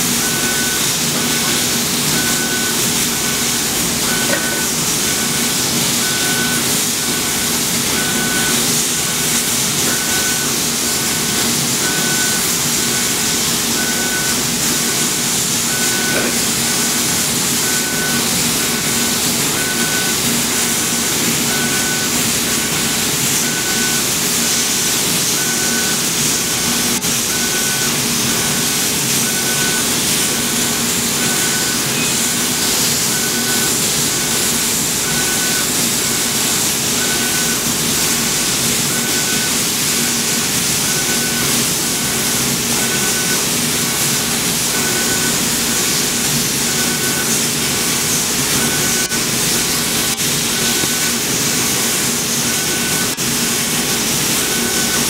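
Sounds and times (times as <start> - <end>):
laser cutter hissing: 0.0 - 55.0.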